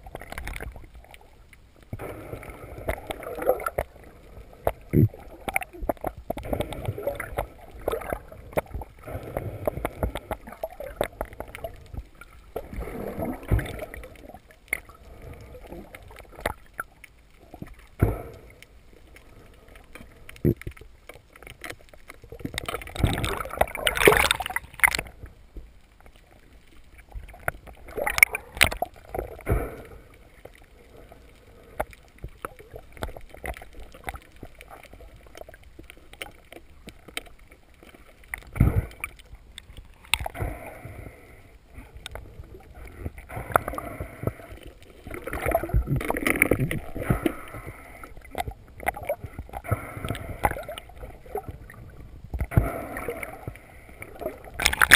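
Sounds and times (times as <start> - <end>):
muffled water sloshing and bubbling: 0.0 - 54.9.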